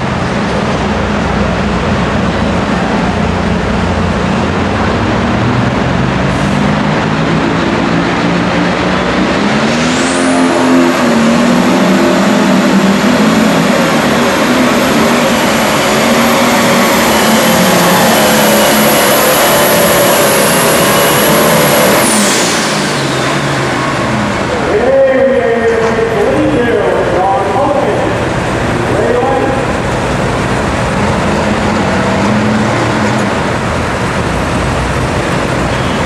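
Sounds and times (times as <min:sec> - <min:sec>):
diesel engine under full load: 0:00.0 - 0:36.0.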